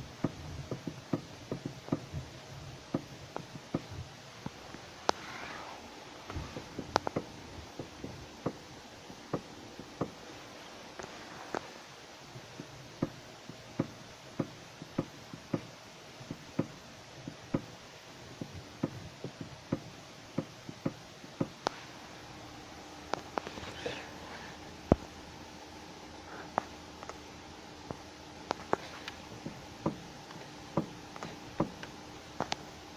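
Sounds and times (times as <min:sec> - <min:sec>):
steering clicks and knocks: 0:00.1 - 0:05.2, 0:06.2 - 0:11.7, 0:12.3 - 0:21.8, 0:26.5 - 0:32.8.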